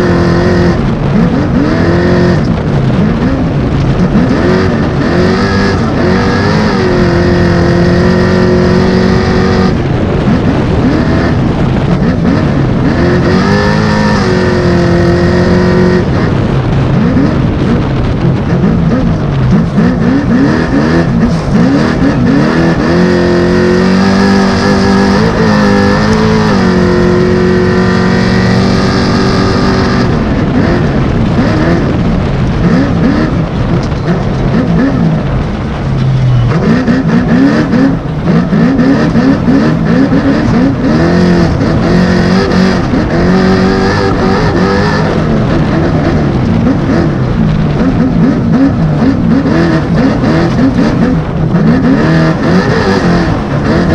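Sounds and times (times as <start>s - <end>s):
truck engine revving: 0.0s - 53.9s
wind and terrain noise: 0.0s - 53.9s.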